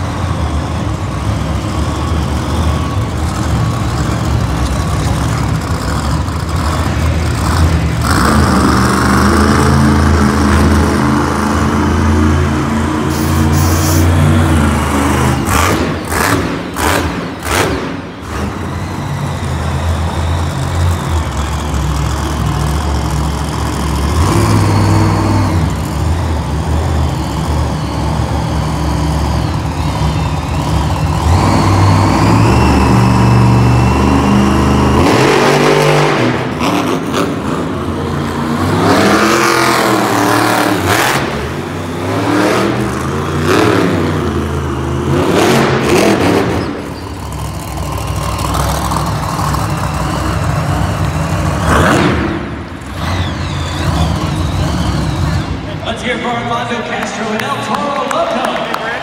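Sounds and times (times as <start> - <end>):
truck engine revving with whine: 0.0 - 57.8.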